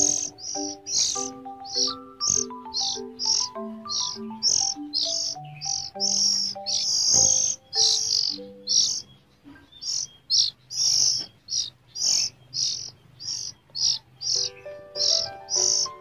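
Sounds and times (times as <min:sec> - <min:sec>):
young bird screeching begging calls: 0:00.0 - 0:16.0.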